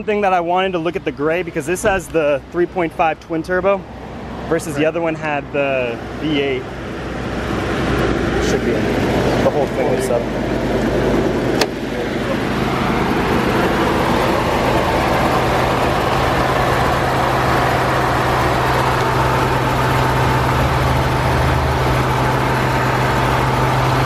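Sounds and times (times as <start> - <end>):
car engine idling: 0.0 - 24.0
engine belt rattling: 0.0 - 24.0.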